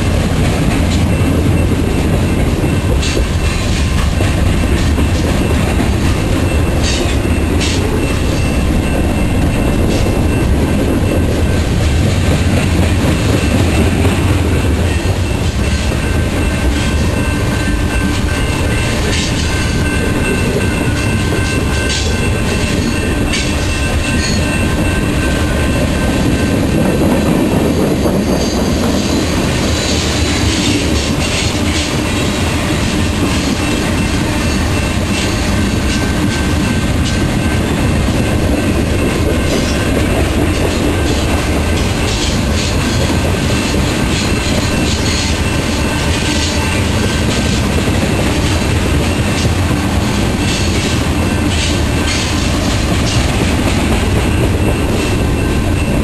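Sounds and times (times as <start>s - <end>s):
freight train wheels rumbling: 0.0s - 56.0s
wheels clacking over rail joints: 0.0s - 56.0s.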